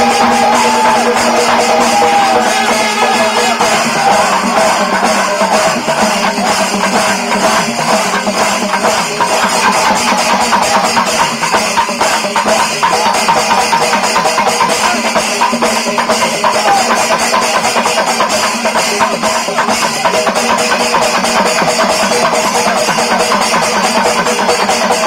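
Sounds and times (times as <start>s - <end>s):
fast steady drumming: 0.0s - 25.0s.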